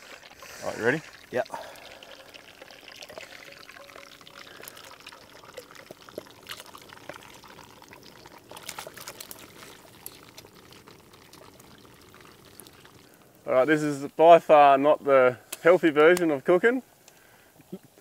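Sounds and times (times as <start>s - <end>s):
oil sizzling with crackles: 0.0s - 18.0s.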